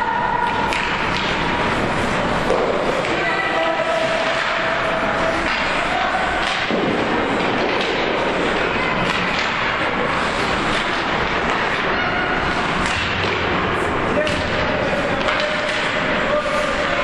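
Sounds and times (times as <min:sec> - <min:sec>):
hockey sticks and puck knocking: 0:00.0 - 0:17.0.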